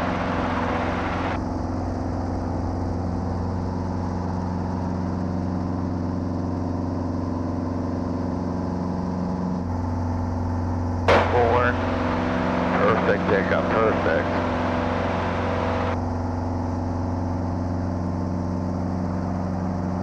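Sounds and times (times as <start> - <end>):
helicopter engine and rotor drone: 0.0 - 20.0.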